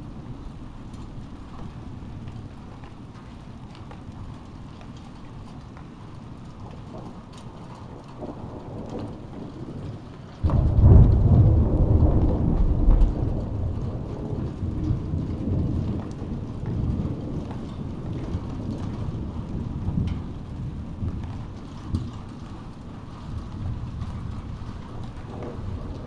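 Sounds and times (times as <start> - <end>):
steady rain falling: 0.0 - 26.0
thunder rumbling: 0.0 - 26.0.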